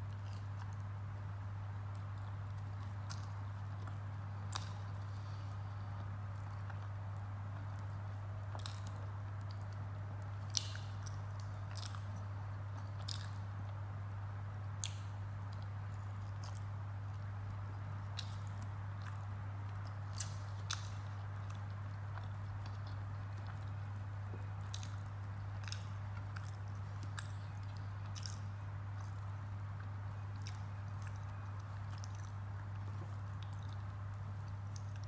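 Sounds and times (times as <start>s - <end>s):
chewing and biting food: 0.0s - 13.8s, 14.6s - 35.0s
steady low hum: 0.0s - 35.0s.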